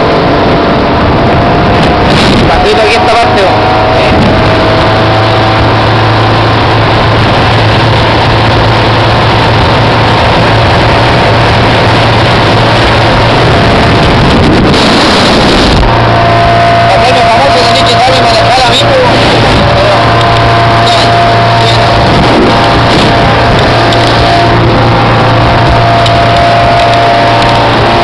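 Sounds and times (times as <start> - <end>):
rushing water: 0.0 - 28.0
speedboat engine running: 0.0 - 28.0
wind over microphone: 0.0 - 28.0.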